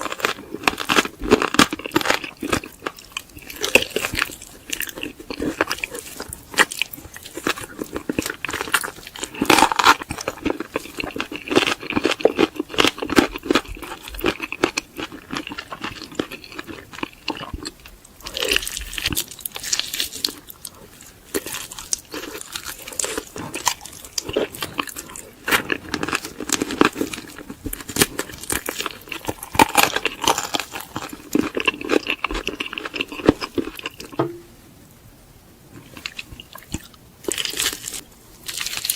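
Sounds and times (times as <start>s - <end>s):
crunchy chewing of fried chicken: 0.0s - 34.3s, 35.7s - 38.9s.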